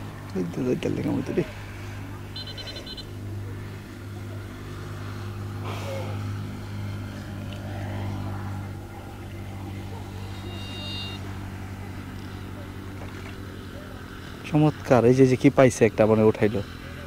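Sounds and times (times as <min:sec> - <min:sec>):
engine humming drone: 0:00.0 - 0:17.0.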